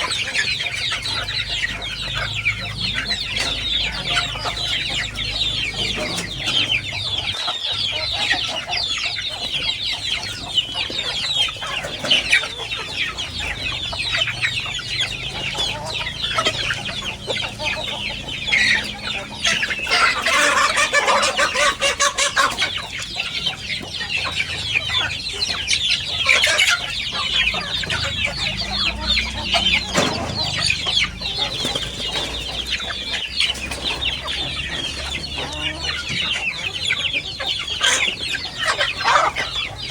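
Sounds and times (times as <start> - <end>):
chickens clucking and cheeping: 0.0 - 39.9
chickens squawking: 0.0 - 39.9.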